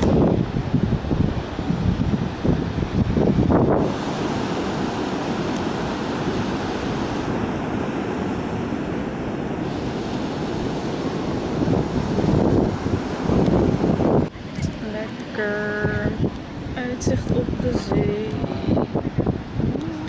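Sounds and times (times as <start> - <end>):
waves breaking on a beach: 0.0 - 20.0
wind on microphone: 0.0 - 20.0.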